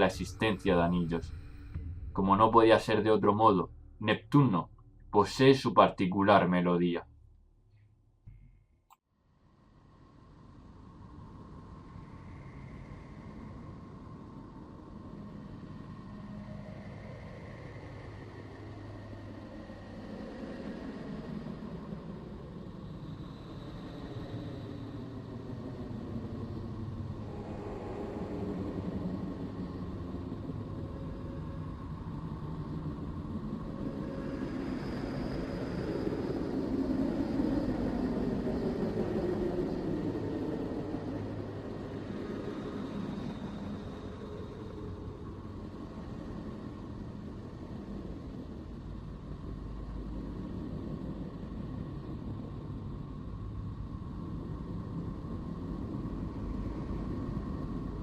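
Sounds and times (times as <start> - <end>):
low drone: 0.0 - 58.0.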